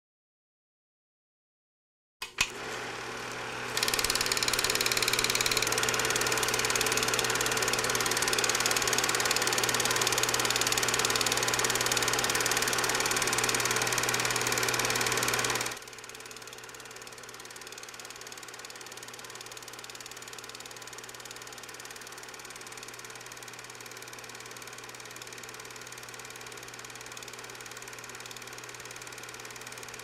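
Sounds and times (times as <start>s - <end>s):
film projector clatter: 2.2s - 30.0s.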